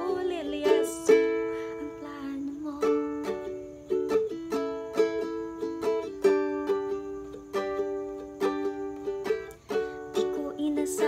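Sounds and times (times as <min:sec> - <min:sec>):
ukulele strumming: 0:00.0 - 0:11.0.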